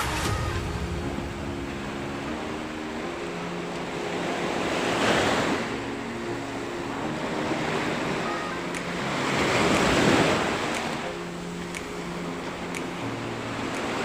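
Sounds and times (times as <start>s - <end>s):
faint background music: 0.0s - 14.0s
waves breaking on rocky shore: 0.0s - 14.0s.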